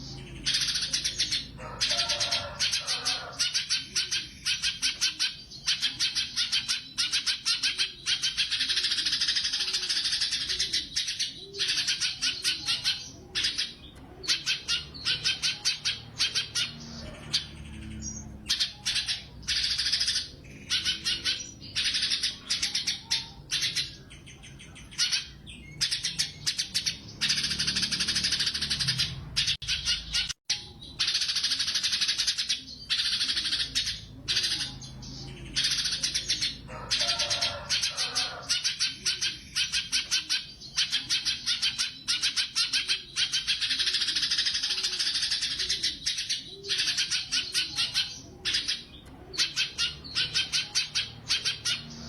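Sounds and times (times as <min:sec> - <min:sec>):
songbird singing rapid notes: 0:00.0 - 0:52.0.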